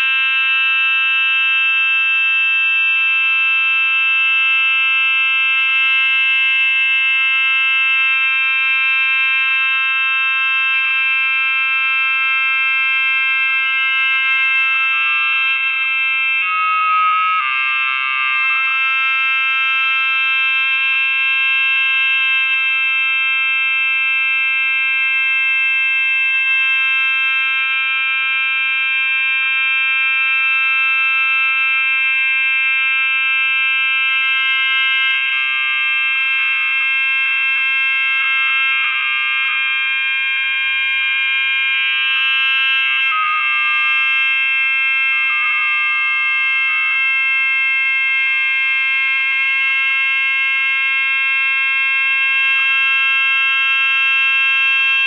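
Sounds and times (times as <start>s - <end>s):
high-pitched audio feedback whine: 0.0s - 55.0s.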